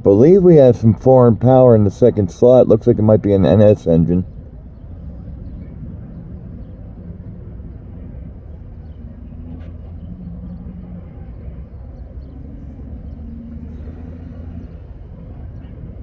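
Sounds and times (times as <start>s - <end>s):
diesel locomotive engines rumbling: 0.0s - 16.0s.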